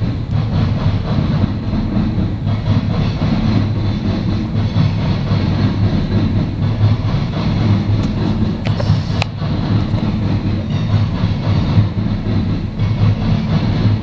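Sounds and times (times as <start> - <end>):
train cars rumbling past: 0.0 - 14.0
wheels clacking over rail joints: 0.0 - 14.0.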